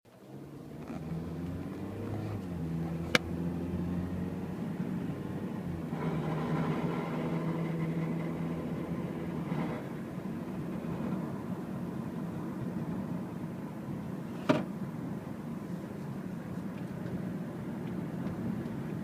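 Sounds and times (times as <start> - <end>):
car engine running: 0.1 - 19.0.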